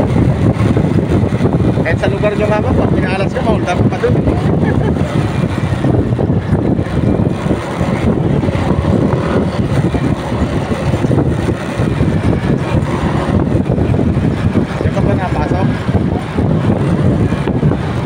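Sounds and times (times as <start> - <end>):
motorcycle engine: 0.0 - 18.0
wind buffeting microphone: 0.0 - 18.0.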